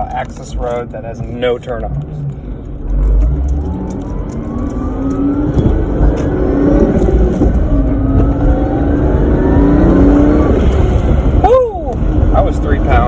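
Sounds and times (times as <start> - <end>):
car engine accelerating: 0.0 - 13.0
supercharger whine: 1.9 - 13.0.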